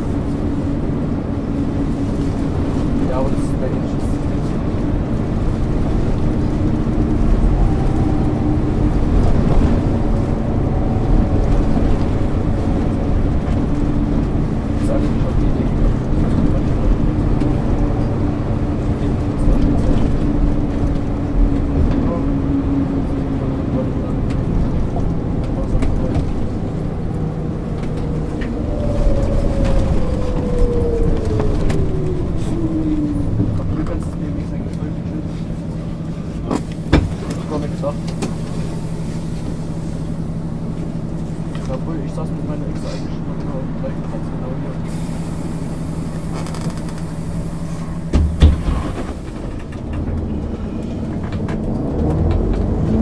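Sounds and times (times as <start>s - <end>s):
diesel bus engine droning: 0.0s - 53.0s.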